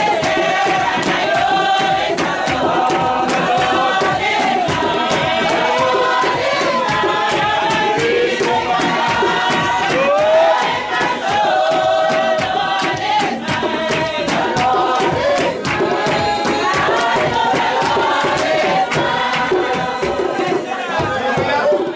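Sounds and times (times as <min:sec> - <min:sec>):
congregation singing a hymn: 0:00.0 - 0:21.9
rhythmic hand clapping: 0:00.0 - 0:21.9.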